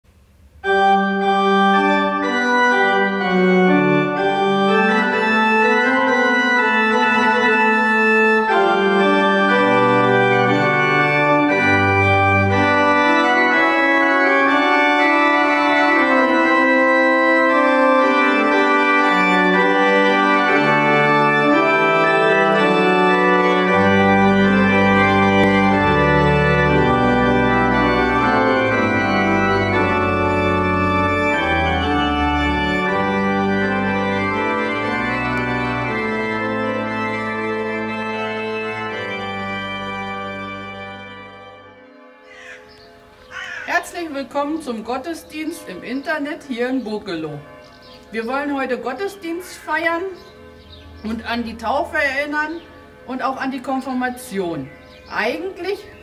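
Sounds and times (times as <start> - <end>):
deep organ bass notes: 0.1 - 56.0
pipe organ chords: 0.1 - 56.0.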